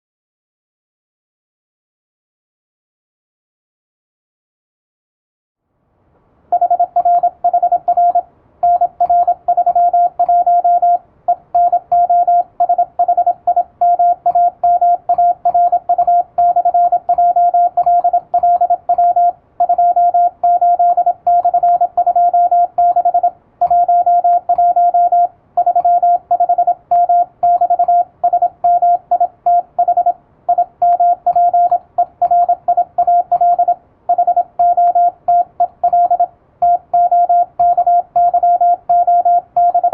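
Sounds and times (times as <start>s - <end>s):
morse code beeps: 6.5s - 39.9s.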